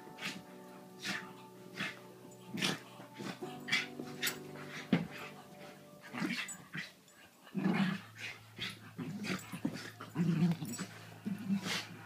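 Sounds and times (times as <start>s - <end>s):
dogs growling in play: 0.0s - 12.0s.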